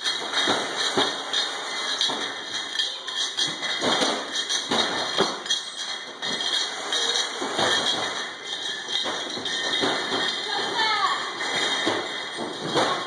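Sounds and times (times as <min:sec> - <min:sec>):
bottles knocking and clattering: 0:00.0 - 0:13.0.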